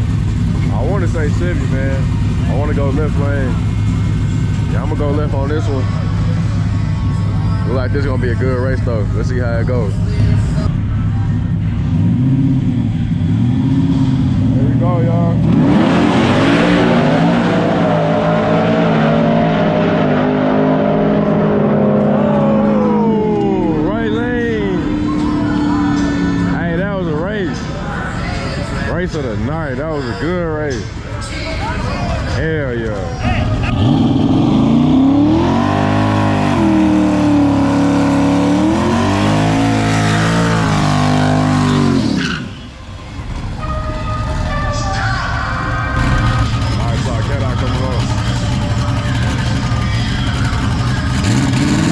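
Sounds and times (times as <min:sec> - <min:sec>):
tyre and exhaust rush: 0:00.0 - 0:44.8
trucks racing at full throttle: 0:00.0 - 0:51.9.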